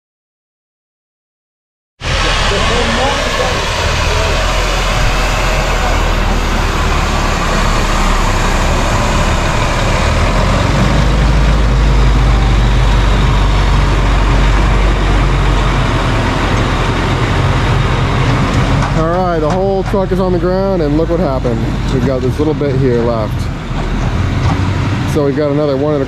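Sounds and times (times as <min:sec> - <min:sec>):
diesel engine running: 0:02.0 - 0:26.0.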